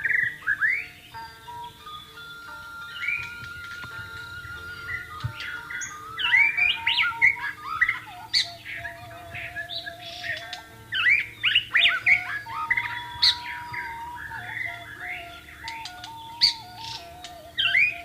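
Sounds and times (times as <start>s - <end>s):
bamboo flute low notes: 0.0s - 18.0s
bird singing whistled phrases: 0.0s - 18.0s.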